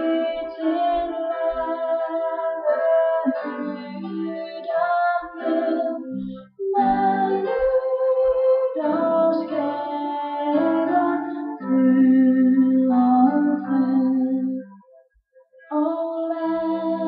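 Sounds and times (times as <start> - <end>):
slow music of long held notes: 0.0 - 17.0.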